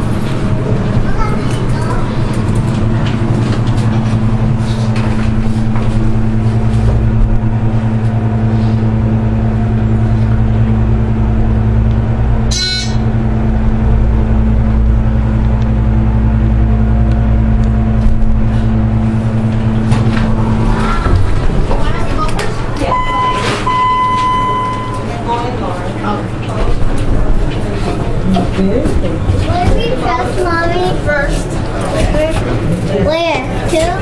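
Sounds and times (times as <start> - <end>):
elevator machinery humming: 0.0 - 34.0.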